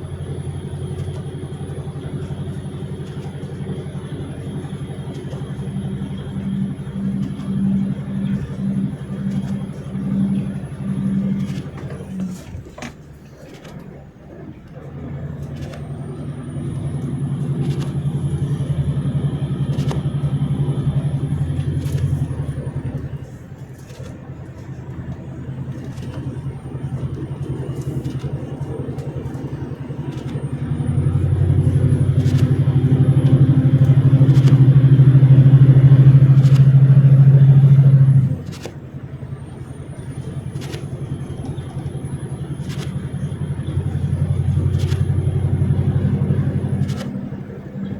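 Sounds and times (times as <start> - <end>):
vehicle engine under load: 0.0 - 47.9.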